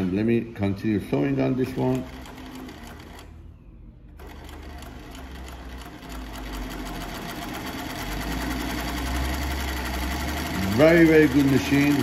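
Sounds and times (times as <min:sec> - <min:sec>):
sewing machine motor hum: 0:01.1 - 0:12.0
sewing machine clicking: 0:01.5 - 0:03.4, 0:04.2 - 0:12.0.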